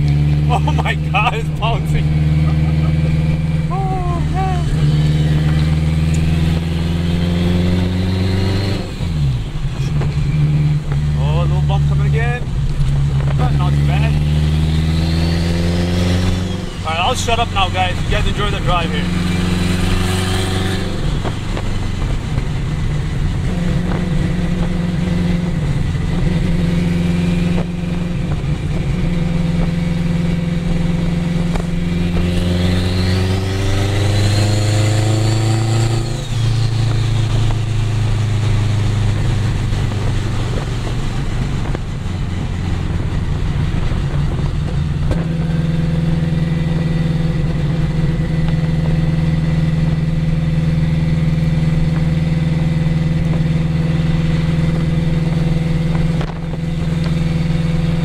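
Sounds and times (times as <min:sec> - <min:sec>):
car engine droning: 0:00.0 - 0:58.0.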